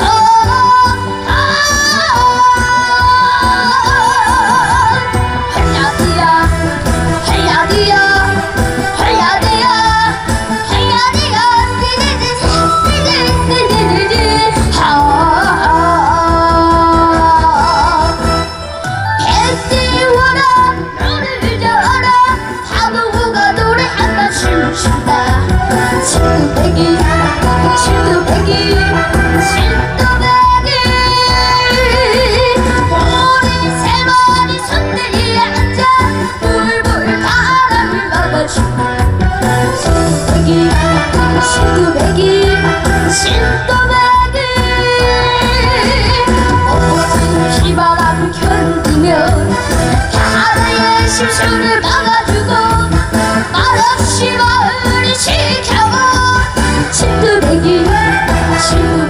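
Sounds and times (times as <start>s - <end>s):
band backing music: 0.0s - 59.0s.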